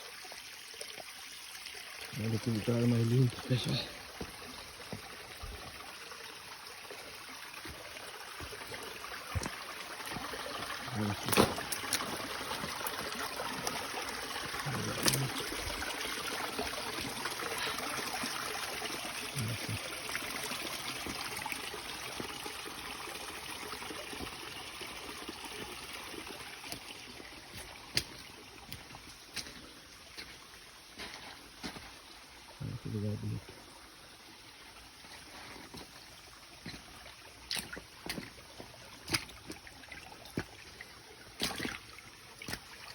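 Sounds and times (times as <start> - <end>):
stream flowing and trickling: 0.0 - 42.9.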